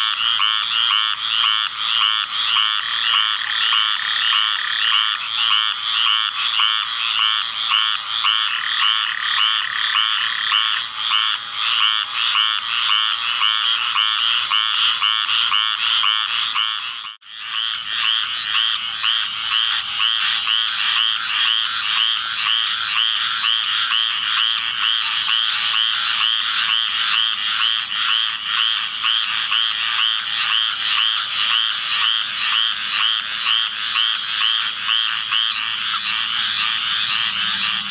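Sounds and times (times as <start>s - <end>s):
treefrog chorus: 0.0s - 37.9s.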